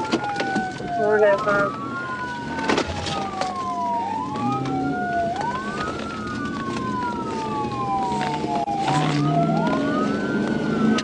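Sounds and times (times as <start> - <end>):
low vehicle engine hum: 0.0 - 11.0
police siren wailing: 0.0 - 11.0.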